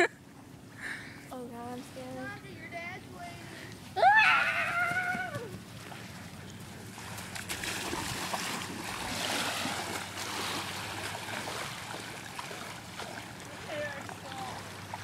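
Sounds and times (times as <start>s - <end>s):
faint jet ski engine hum: 0.0s - 15.0s.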